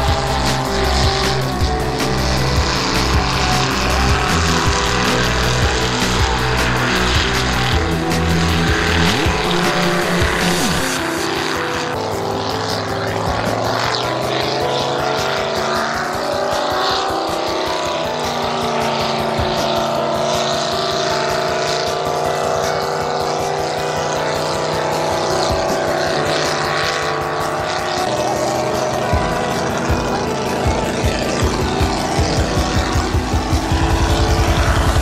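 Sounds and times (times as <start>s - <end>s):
boat engine running hard: 0.0s - 35.0s.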